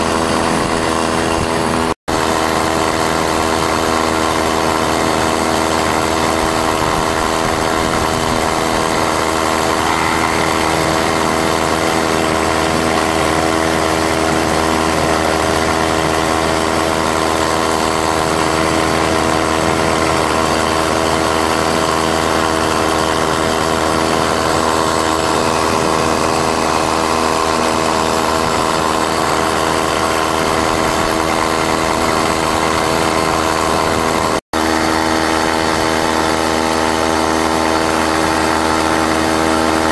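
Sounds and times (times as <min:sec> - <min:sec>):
two-stroke outboard motor running: 0:00.0 - 0:39.9.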